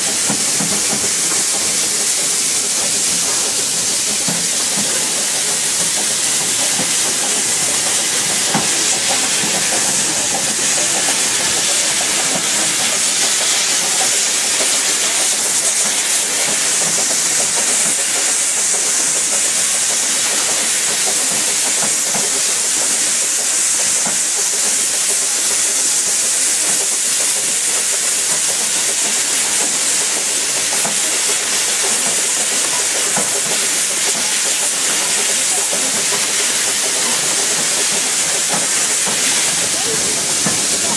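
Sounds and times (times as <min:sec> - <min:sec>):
steam train running hiss: 0:00.0 - 0:40.9.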